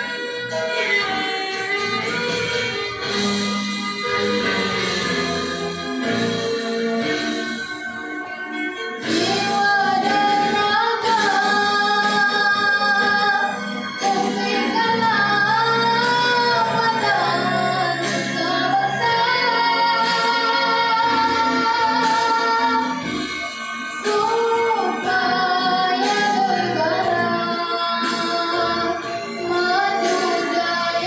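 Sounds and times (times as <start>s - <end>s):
backing music track: 0.0s - 31.0s.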